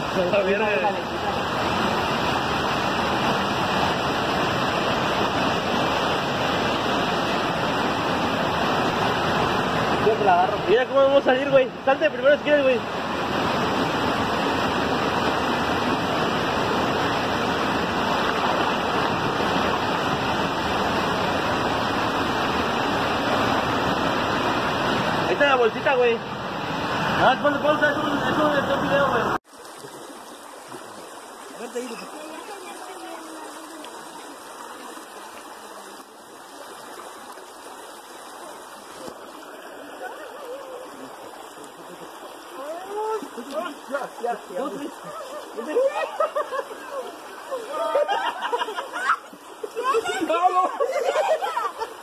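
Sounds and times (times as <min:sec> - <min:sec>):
stream running over rocks: 0:00.0 - 0:52.0
waterfall rushing: 0:00.0 - 0:52.0.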